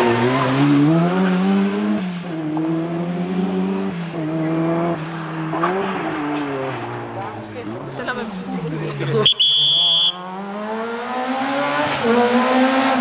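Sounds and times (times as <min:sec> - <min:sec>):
rally car engine revving: 0:00.0 - 0:09.2, 0:10.0 - 0:13.0.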